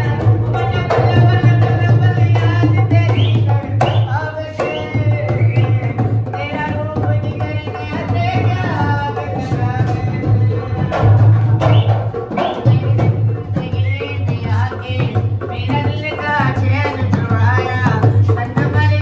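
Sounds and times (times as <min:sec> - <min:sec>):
barrel drum beating: 0:00.0 - 0:19.0
person singing: 0:00.0 - 0:19.0.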